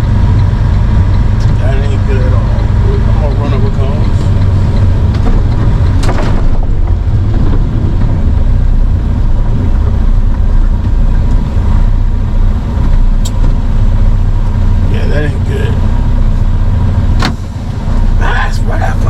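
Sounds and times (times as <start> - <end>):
dump truck engine droning: 0.0 - 19.0.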